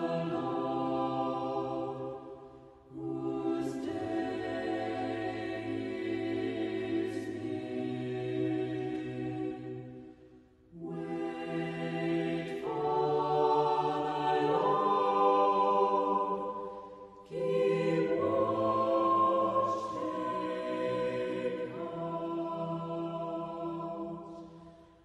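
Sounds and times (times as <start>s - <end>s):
choir singing sacred chant: 0.0s - 25.0s.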